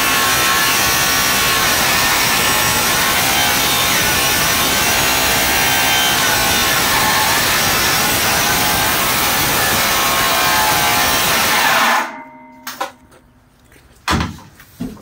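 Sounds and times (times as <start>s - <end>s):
power saw grinding steel: 0.0s - 12.3s.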